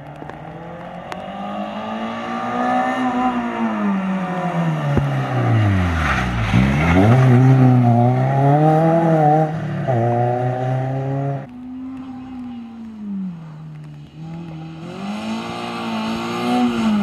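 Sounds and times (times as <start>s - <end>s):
rally car engine passing: 0.1s - 17.0s.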